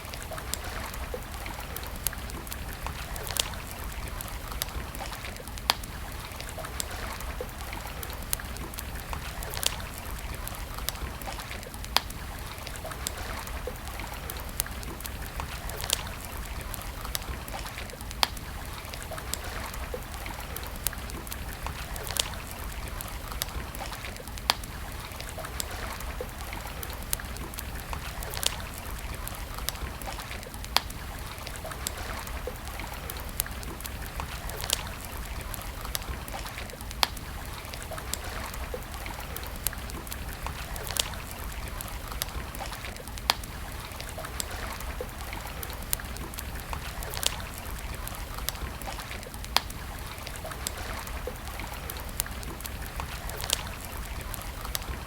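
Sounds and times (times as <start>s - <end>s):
campfire crackling and popping: 0.0s - 55.0s
steady fire hiss: 0.0s - 55.0s.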